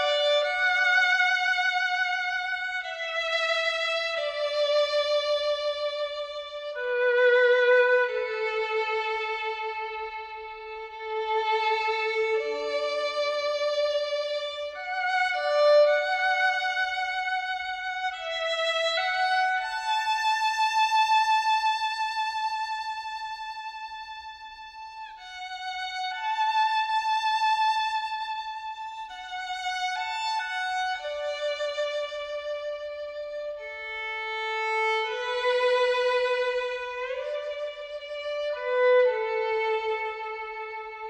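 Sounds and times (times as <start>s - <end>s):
solo violin slow melody: 0.0s - 41.0s.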